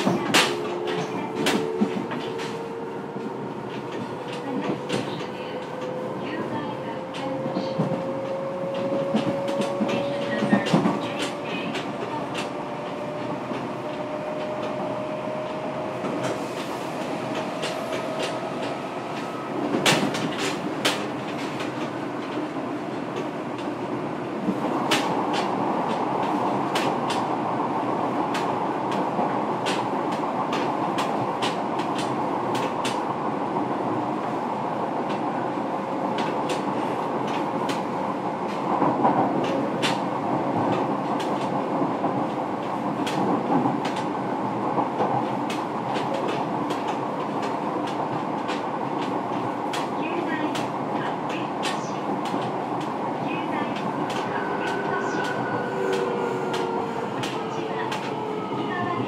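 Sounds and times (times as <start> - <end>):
train running noise: 0.0 - 59.0.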